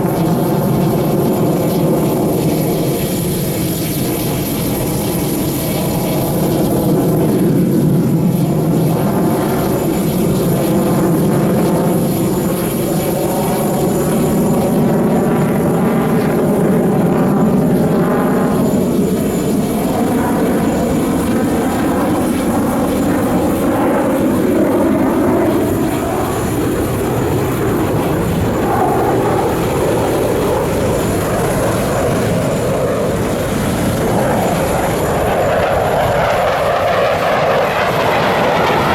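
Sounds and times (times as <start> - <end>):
fighter jets flying past: 0.0 - 38.9.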